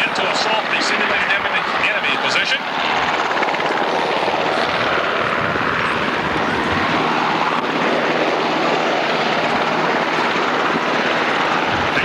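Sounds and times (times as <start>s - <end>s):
helicopter running: 0.0s - 12.0s.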